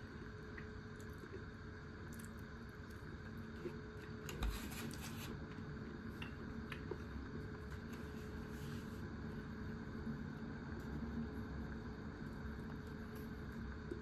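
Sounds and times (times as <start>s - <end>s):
steady room hum: 0.0s - 14.0s.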